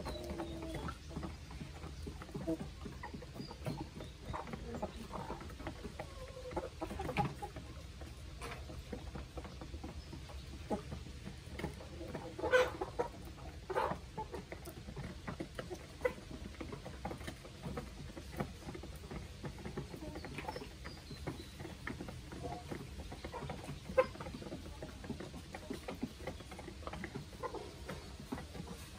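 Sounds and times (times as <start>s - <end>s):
beaks pecking at feed: 0.0s - 28.9s
chickens clucking: 0.0s - 28.9s.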